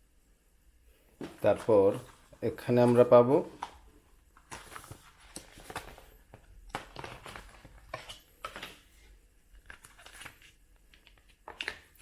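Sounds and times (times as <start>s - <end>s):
paper and cardboard rustling: 1.2s - 12.0s.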